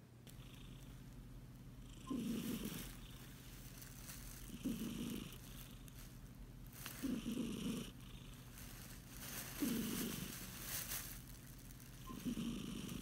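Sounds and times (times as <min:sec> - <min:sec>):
cat purring: 0:00.3 - 0:01.0, 0:01.7 - 0:13.0.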